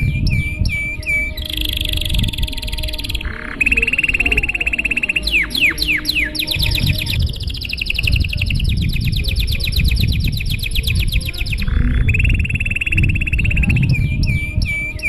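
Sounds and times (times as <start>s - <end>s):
canary singing: 0.0s - 15.0s
low rumble: 0.0s - 15.0s.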